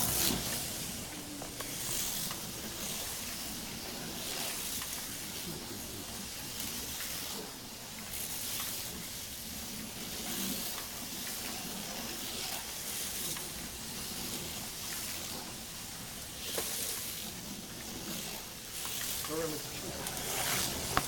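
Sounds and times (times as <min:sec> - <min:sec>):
slot car motors whirring: 0:00.0 - 0:21.0.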